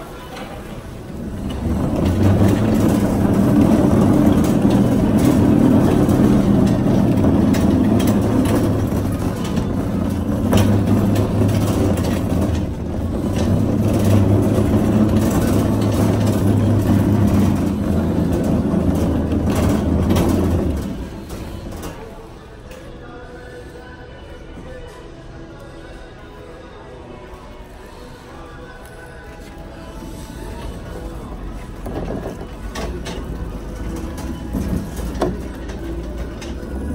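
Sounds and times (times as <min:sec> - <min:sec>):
shopping cart wheels rolling: 0:00.0 - 0:23.9, 0:27.3 - 0:36.9.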